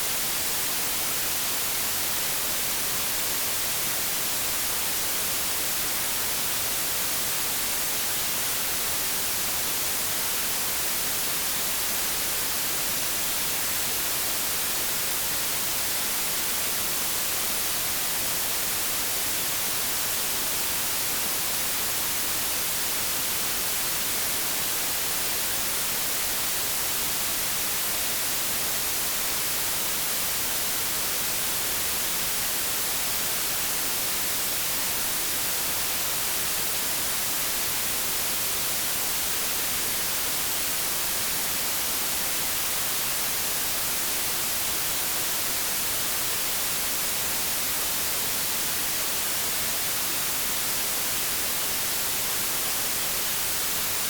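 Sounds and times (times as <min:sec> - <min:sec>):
white noise static hiss: 0:00.0 - 0:54.0.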